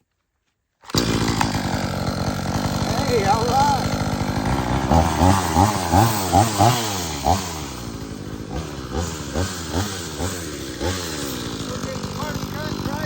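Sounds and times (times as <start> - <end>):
chainsaw revving: 0.8 - 13.0.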